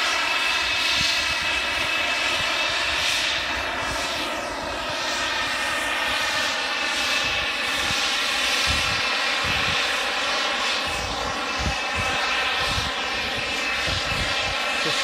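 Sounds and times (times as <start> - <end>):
model jet engine whine: 0.0 - 15.0.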